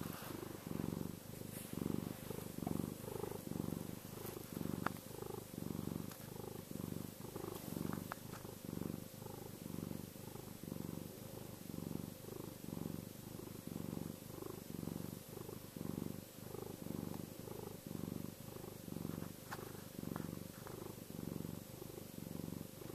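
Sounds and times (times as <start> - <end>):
cat purring: 0.0 - 22.9.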